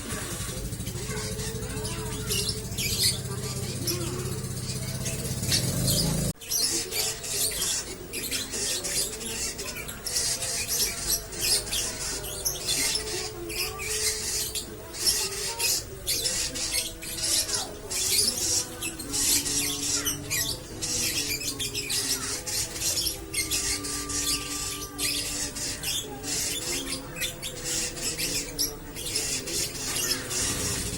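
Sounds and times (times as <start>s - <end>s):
lovebird chattering song: 0.0s - 30.9s.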